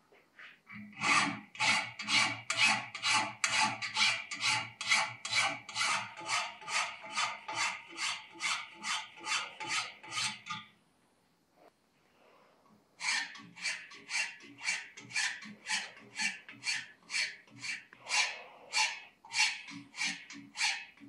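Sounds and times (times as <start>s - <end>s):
hand file rasping on wood: 0.9s - 10.6s, 13.0s - 21.0s.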